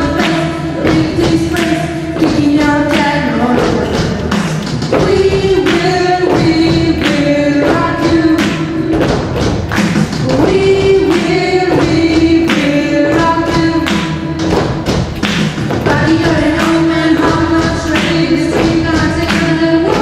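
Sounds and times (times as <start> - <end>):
people singing: 0.0 - 9.0, 10.2 - 14.6, 15.8 - 20.0
drums steady beat: 0.0 - 20.0.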